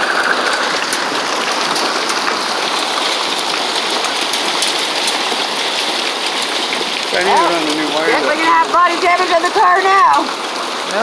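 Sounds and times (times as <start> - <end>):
hailstones ticking: 0.0 - 11.0
rain pattering: 0.0 - 11.0.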